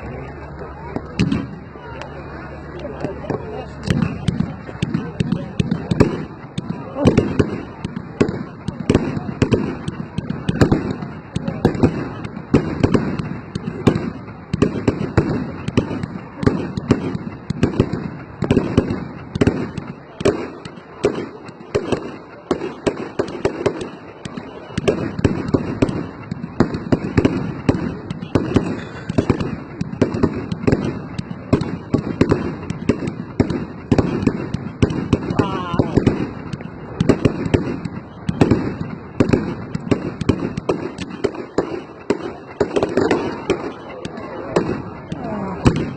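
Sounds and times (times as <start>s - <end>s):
fireworks bangs and crackling pops: 0.0s - 45.9s.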